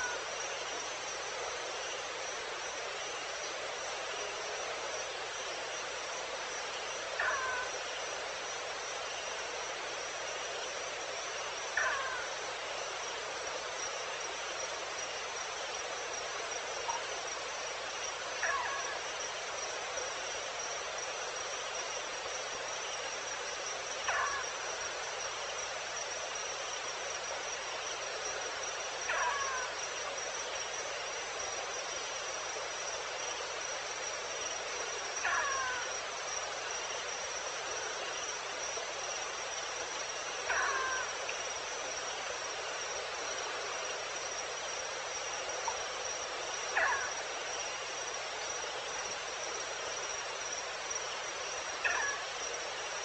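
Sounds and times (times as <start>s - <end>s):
ambient hiss: 0.0s - 53.0s
crickets trilling: 0.0s - 53.0s.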